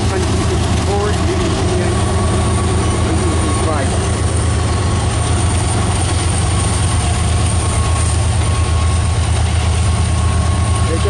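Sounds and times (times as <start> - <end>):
freight train rumbling past: 0.0 - 11.0
thin steady whine: 0.0 - 11.0.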